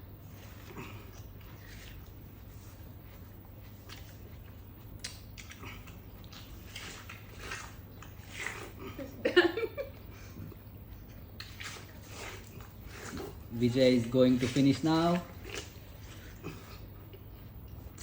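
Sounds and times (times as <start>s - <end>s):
people chewing watermelon: 0.0s - 18.0s
steady low hum: 0.0s - 18.0s.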